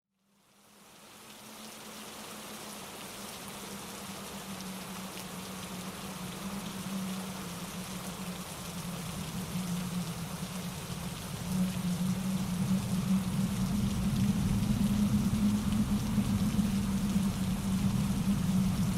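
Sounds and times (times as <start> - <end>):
rain pattering: 0.4 - 18.9
stream rushing over rocks: 0.9 - 18.9.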